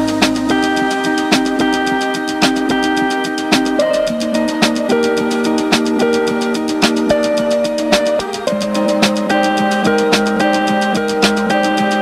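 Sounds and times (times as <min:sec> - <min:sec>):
held chords over steady beat: 0:00.0 - 0:12.0.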